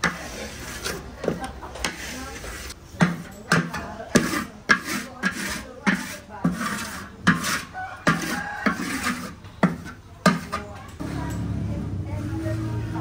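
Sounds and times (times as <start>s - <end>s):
utensil scraping and knocking pan: 0.0s - 11.4s.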